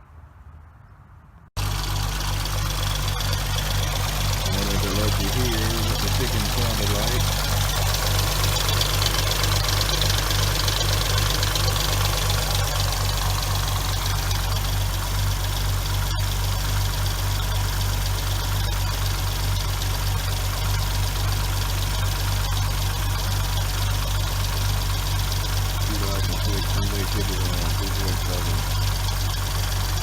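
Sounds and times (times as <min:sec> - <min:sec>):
car engine idling with ticking: 0:01.6 - 0:30.0.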